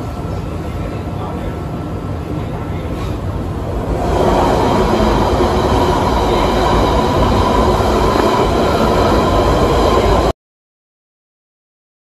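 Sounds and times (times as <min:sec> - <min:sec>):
train carriage rumble and rattle: 0:00.0 - 0:10.3.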